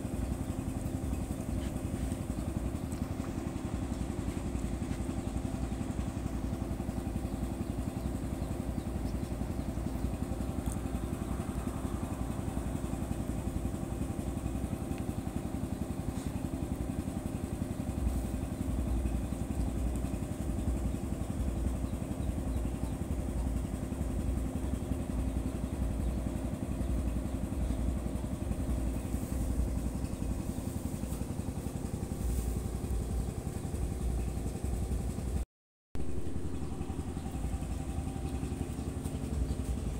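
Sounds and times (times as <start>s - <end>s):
small engine running: 0.0s - 35.4s, 36.0s - 39.9s.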